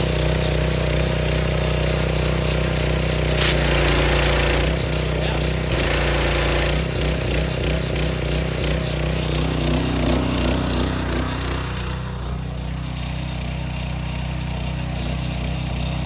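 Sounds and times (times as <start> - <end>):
high-pressure water spray hiss: 0.0 - 13.6
small gasoline engine running: 0.0 - 16.0.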